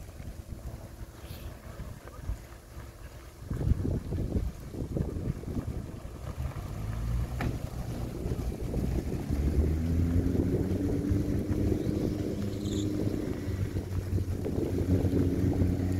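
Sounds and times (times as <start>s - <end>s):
car engine running at low revs: 0.0s - 15.9s
tyres on gravel: 0.0s - 15.9s.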